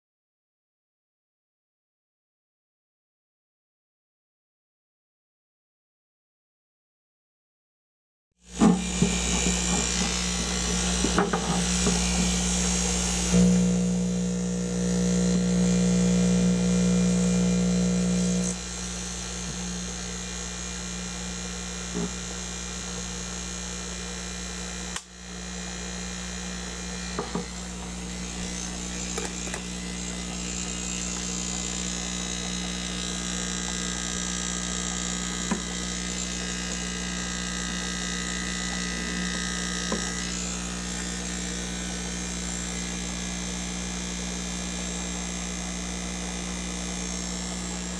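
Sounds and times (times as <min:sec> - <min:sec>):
air pump humming: 0:08.4 - 0:47.9.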